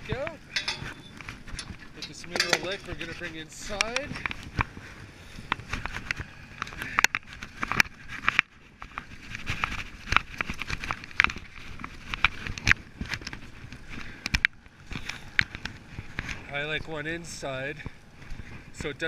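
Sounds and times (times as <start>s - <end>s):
footsteps and handling knocks: 0.0s - 16.5s.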